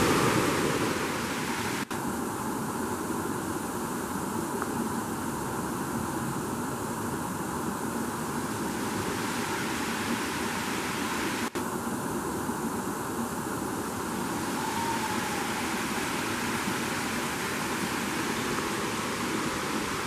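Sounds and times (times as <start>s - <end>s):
stream rushing over boulders: 0.0s - 20.0s.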